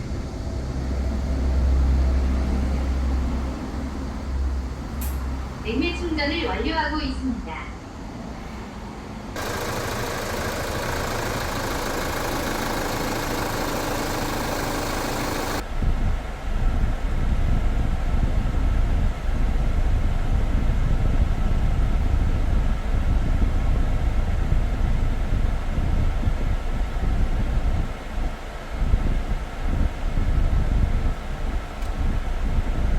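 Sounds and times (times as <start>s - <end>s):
vehicle low rumble: 0.0s - 6.4s, 7.5s - 32.9s.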